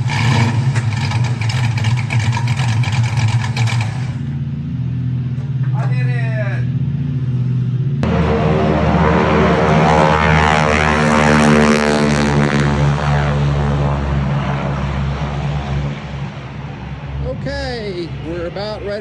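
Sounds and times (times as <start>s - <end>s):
propeller airplane engine passing: 0.0s - 19.0s.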